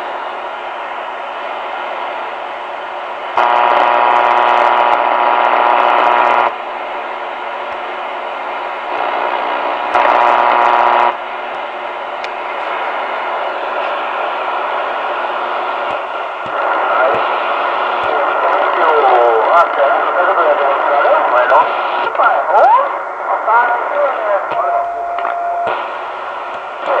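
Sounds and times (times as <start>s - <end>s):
buzzy radio interference hiss: 0.0s - 27.0s.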